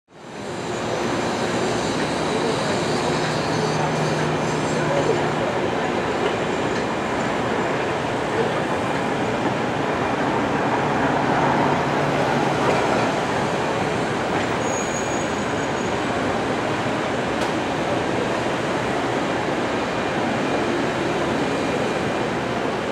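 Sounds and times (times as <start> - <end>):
train running on track: 0.1 - 22.9.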